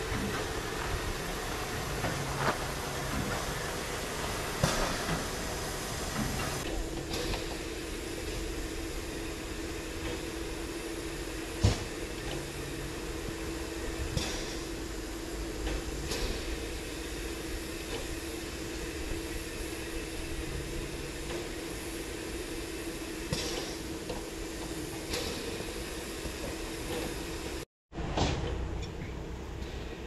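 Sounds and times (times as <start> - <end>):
steam hissing: 0.0 - 27.7
steam locomotive humming: 0.0 - 30.0.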